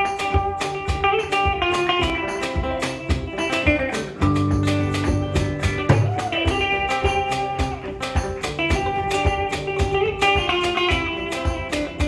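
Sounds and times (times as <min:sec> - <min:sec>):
acoustic guitar strumming: 0:00.0 - 0:12.0
electric guitar melody: 0:00.0 - 0:12.0.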